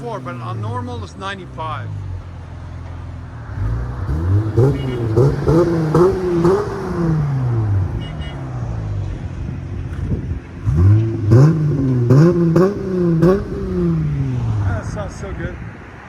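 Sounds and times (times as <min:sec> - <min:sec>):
car engine idling: 0:00.0 - 0:15.2
car engine revving: 0:00.0 - 0:15.2.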